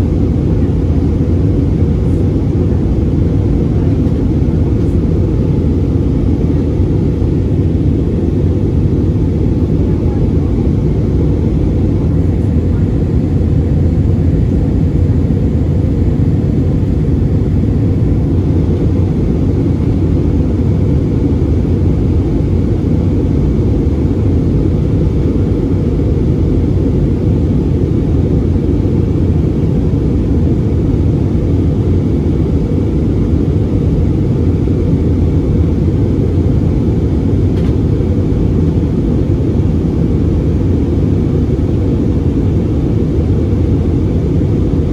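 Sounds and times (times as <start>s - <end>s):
airplane cabin engine rumble: 0.0s - 44.9s.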